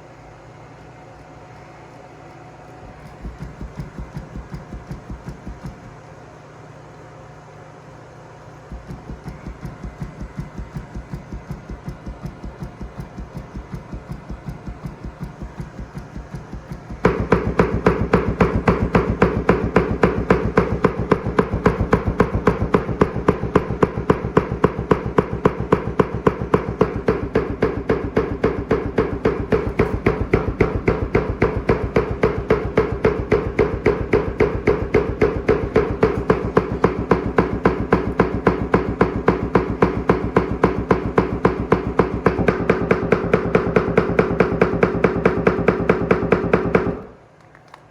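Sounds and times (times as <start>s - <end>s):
subwoofer cone knocking: 2.8s - 6.1s, 8.7s - 47.0s.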